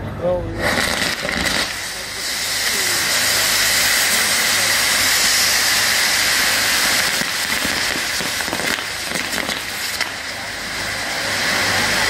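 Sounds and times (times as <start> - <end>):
firework fountain hissing: 0.0 - 12.0
firework crackles: 0.4 - 12.0.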